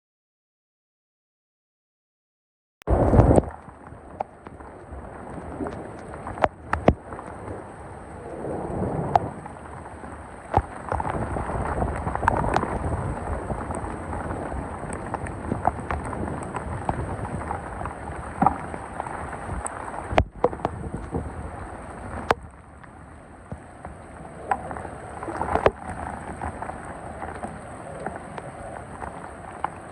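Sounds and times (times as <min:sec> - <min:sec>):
heavy rain: 0:02.9 - 0:29.9
thunder rumble: 0:02.9 - 0:29.9.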